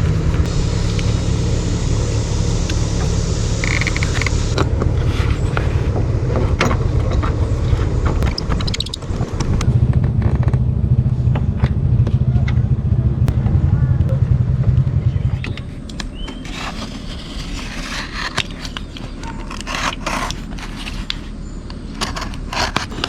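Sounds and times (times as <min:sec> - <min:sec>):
motor humming: 0:00.0 - 0:23.0.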